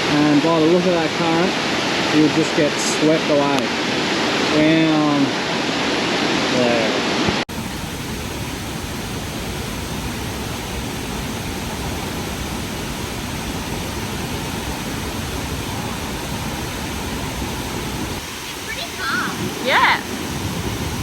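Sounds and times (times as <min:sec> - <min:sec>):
loud rush of flowing water: 0:00.0 - 0:21.0.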